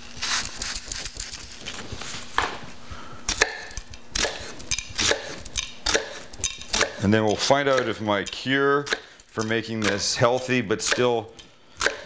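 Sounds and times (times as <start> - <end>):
knife cutting onion: 0.0 - 1.6, 3.3 - 12.0.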